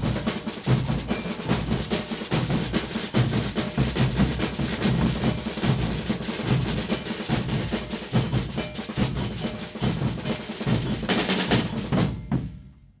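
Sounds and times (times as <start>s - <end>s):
rolling snare drum rhythm: 0.0s - 13.0s.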